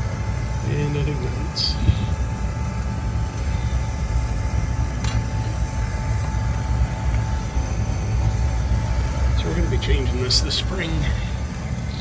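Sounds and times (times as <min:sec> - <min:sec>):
faint steady whine: 0:00.0 - 0:12.0
oil burner rumbling: 0:00.0 - 0:12.0.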